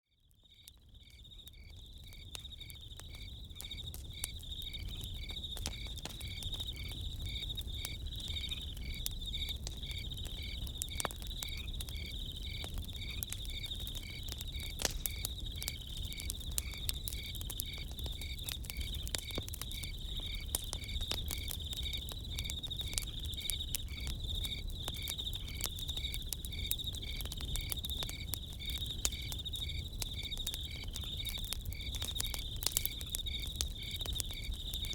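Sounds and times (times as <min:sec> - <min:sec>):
campfire crackling and popping: 0:00.2 - 0:34.9
crickets chirping: 0:00.3 - 0:34.9.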